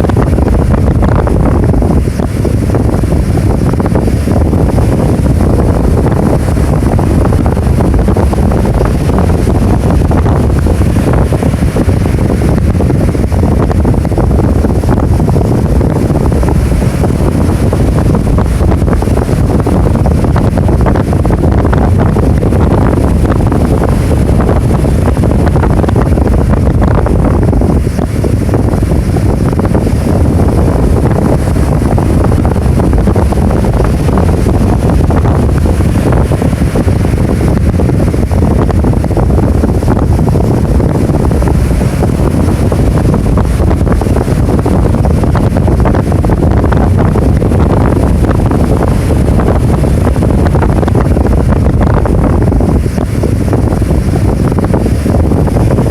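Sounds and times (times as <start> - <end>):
heavy surf breaking: 0.0 - 55.9
wind buffeting microphone: 0.0 - 55.9.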